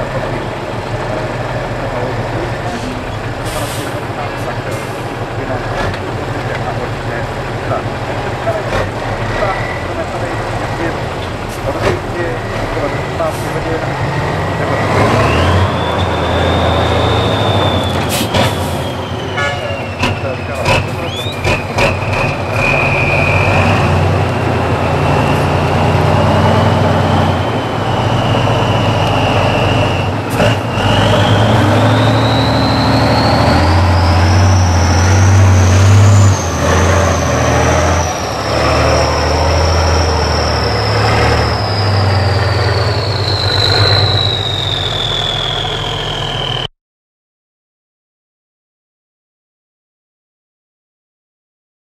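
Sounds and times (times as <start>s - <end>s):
truck diesel engine under load: 0.0s - 46.7s.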